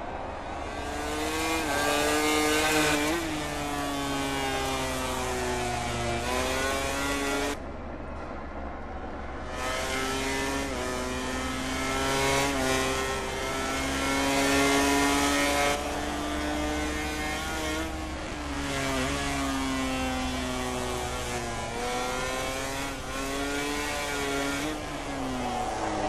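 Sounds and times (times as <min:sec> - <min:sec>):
racing motorcycle engine revving: 0:00.0 - 0:05.2, 0:05.8 - 0:07.6, 0:09.4 - 0:26.0.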